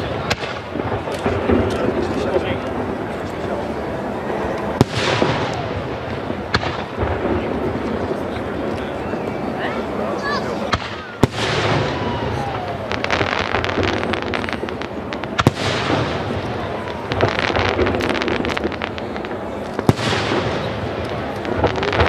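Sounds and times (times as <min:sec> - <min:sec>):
firework bangs: 0:00.0 - 0:22.0
firework crackling: 0:00.0 - 0:22.0.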